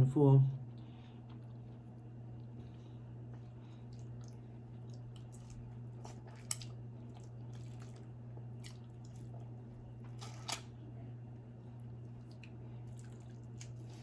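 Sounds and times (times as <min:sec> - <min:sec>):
wet chewing and smacking: 0:00.8 - 0:10.2, 0:11.8 - 0:14.0.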